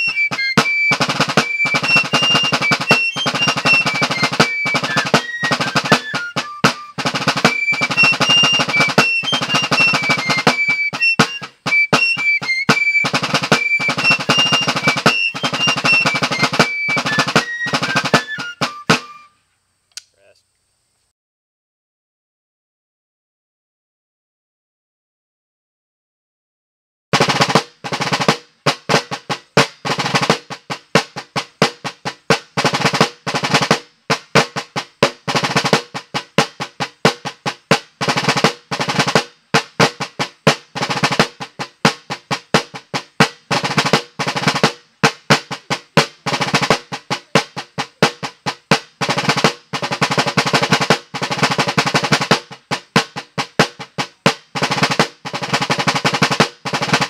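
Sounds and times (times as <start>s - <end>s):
snare drum rolls and strokes: 0.0s - 19.3s, 27.1s - 57.0s.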